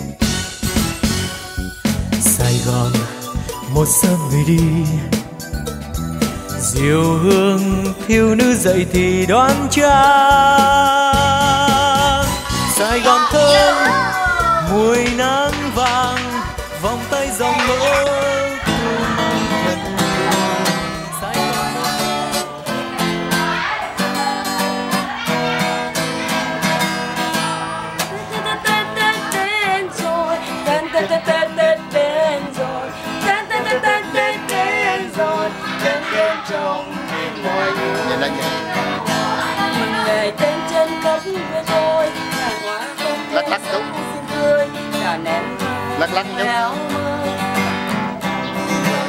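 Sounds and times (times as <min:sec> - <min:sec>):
strummed acoustic guitar: 0:00.0 - 0:49.0
person singing: 0:02.2 - 0:05.4, 0:06.5 - 0:25.2, 0:28.0 - 0:49.0.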